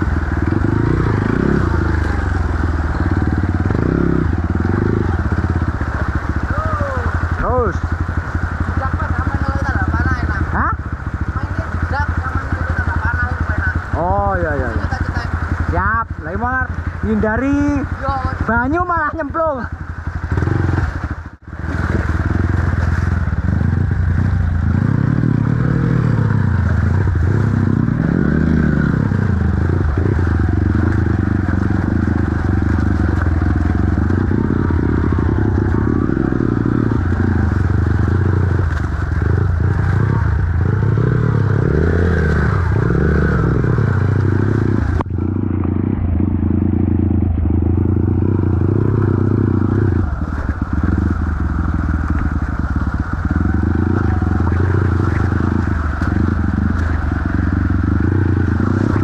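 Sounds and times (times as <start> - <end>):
dirt bike engine revving: 0.0 - 59.0
water splashing: 0.0 - 59.0.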